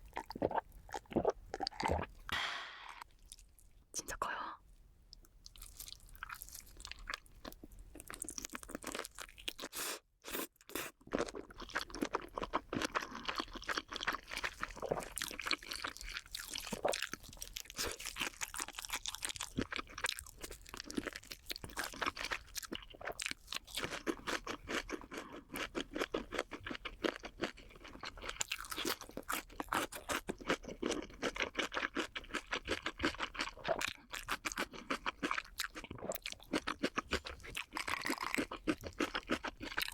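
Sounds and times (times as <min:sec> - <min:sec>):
chewing crunchy food: 0:00.0 - 0:02.3, 0:05.1 - 0:39.9.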